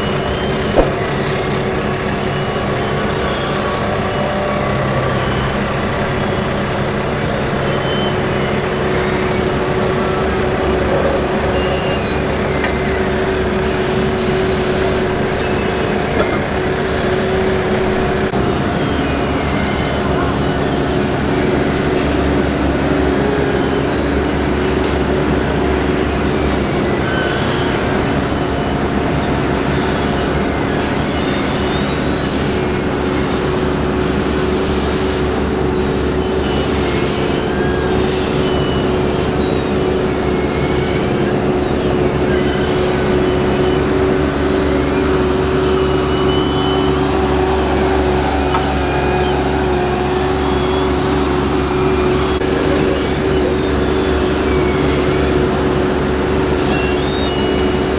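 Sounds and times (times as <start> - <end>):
short high chirps and squeaks: 0.0 - 5.5, 7.5 - 17.7, 18.4 - 57.9
heavy diesel machinery running: 0.0 - 57.9.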